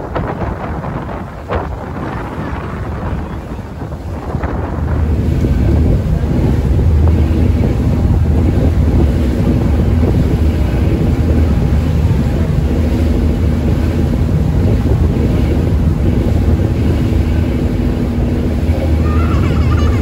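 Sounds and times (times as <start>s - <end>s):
ferry engine drone: 0.0s - 20.0s
wind buffeting microphone: 0.0s - 20.0s.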